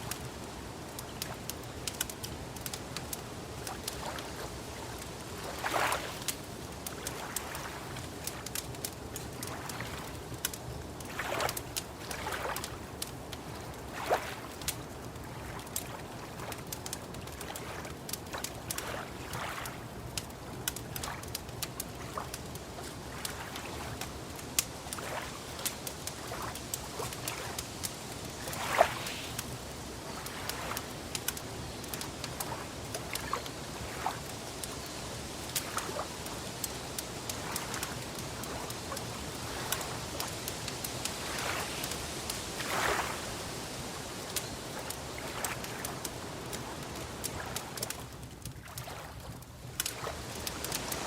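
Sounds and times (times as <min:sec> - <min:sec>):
lake water lapping: 0:00.0 - 0:51.0
wood fire crackling: 0:00.0 - 0:51.0.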